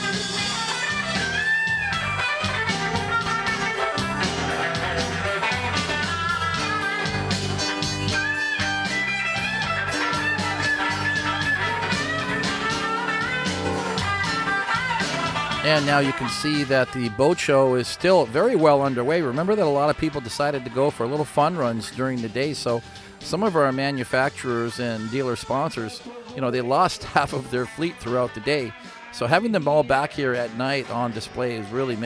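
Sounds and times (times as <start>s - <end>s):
bluesy rock band music: 0.0s - 32.0s.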